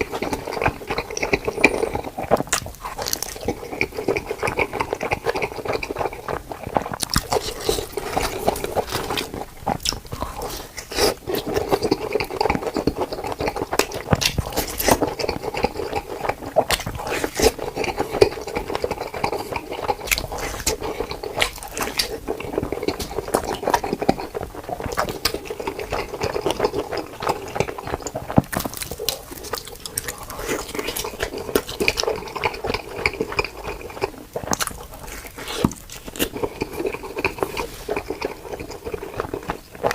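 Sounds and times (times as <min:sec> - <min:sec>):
mouth clicks and smacks: 0:00.0 - 0:39.9
person chewing food: 0:00.0 - 0:39.9.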